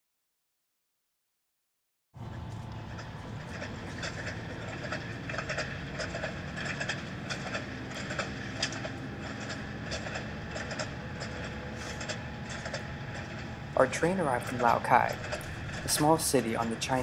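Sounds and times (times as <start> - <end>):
train carriage rumbling and clacking: 2.2 - 17.0.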